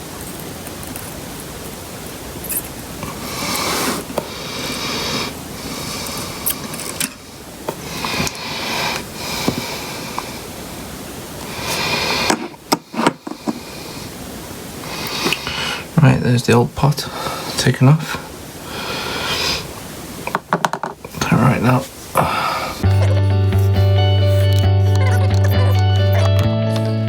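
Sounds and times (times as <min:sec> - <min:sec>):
hissing noise: 0:01.0 - 0:20.4, 0:21.1 - 0:27.0.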